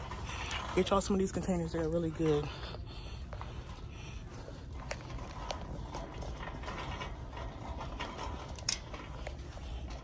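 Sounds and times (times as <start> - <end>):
shopping cart wheels rumbling: 0.0 - 10.0.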